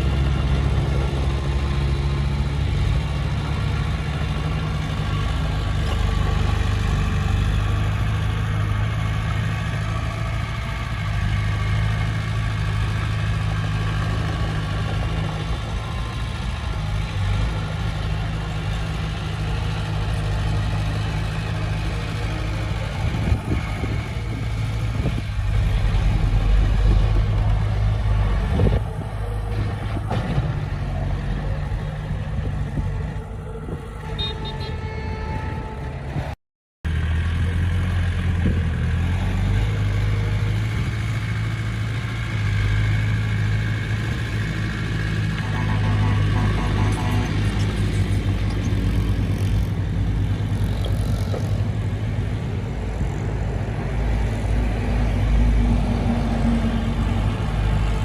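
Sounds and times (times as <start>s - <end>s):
heavy diesel engine running: 0.0s - 34.6s, 36.9s - 58.0s.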